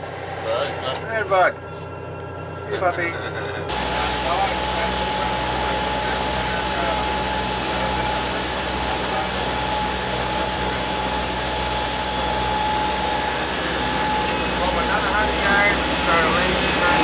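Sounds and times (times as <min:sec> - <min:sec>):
engine drone with whine: 0:00.0 - 0:17.0.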